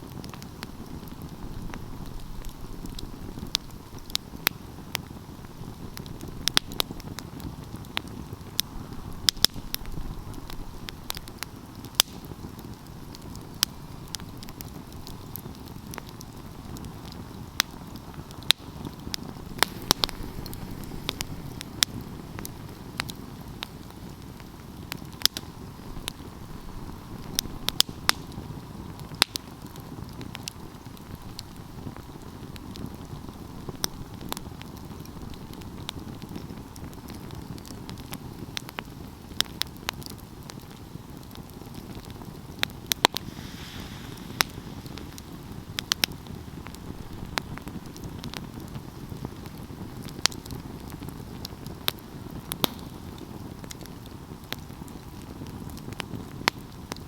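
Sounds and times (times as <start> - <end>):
fire flames rushing: 0.0 - 38.8, 40.0 - 57.0
fire crackles and pops: 0.0 - 57.0.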